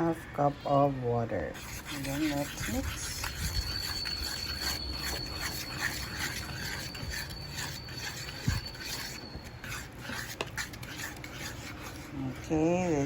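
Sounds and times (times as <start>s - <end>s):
utensil scraping against bowl: 1.5s - 13.0s.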